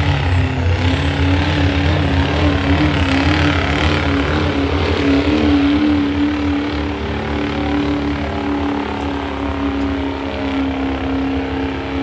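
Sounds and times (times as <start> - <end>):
diesel engine at high revs: 0.0 - 12.0.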